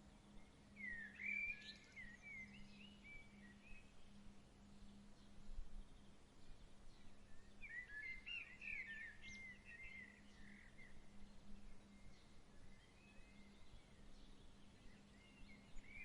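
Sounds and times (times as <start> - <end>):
faint outdoor hiss: 0.0 - 16.0
songbird twittering: 0.3 - 4.2, 4.8 - 16.0.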